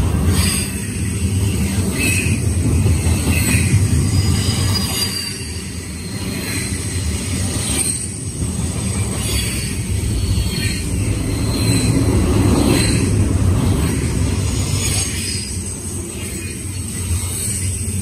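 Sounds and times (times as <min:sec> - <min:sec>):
freight train wheels rumbling: 0:00.0 - 0:18.0
high wheel squeal: 0:00.3 - 0:18.0.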